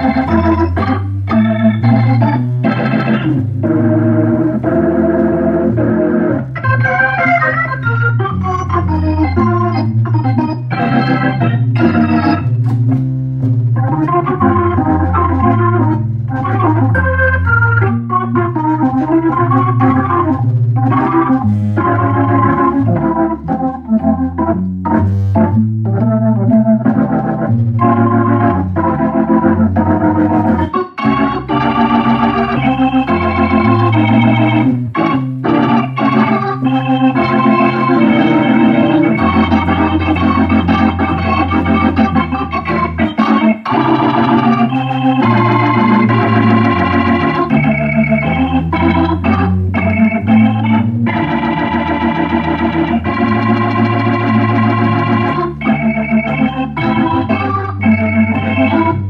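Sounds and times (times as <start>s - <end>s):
organ through rotating speaker: 0.0s - 59.0s.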